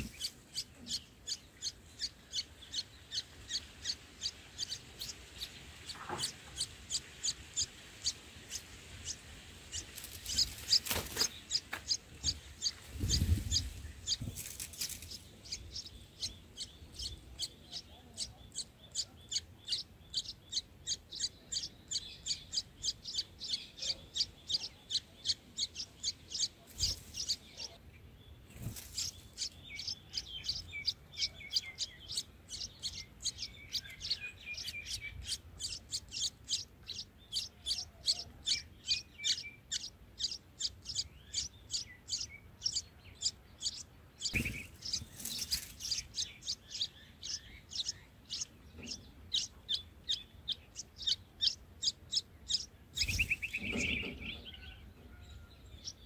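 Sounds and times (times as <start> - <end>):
nestlings cheeping: 0.0 - 27.8, 28.4 - 54.8.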